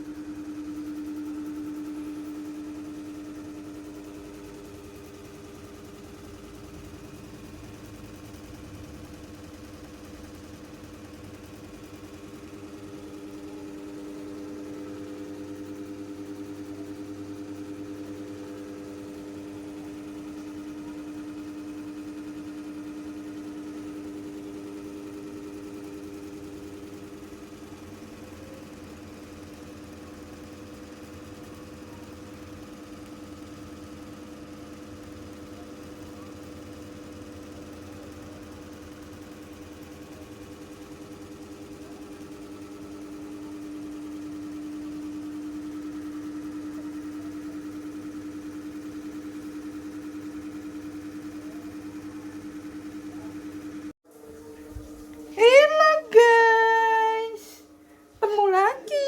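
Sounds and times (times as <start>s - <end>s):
motor running with steady hum: 0.0s - 59.0s.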